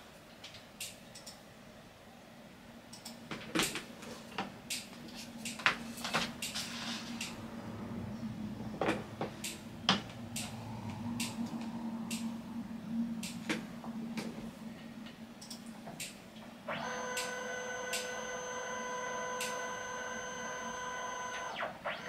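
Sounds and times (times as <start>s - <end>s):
low steady hum: 0.0s - 22.0s
steady multi-pitch whine: 1.4s - 22.0s.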